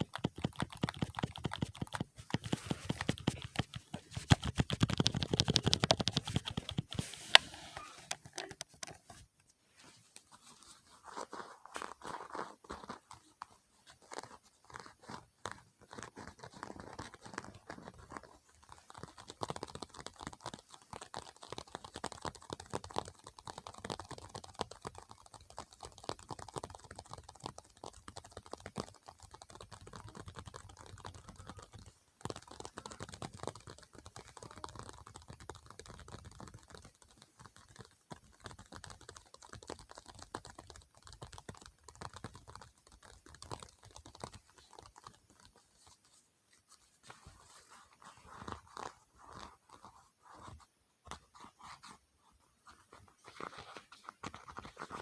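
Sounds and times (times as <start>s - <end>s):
rapid tapping and clicking on objects: 0.0s - 9.2s, 10.2s - 52.0s, 52.6s - 55.0s.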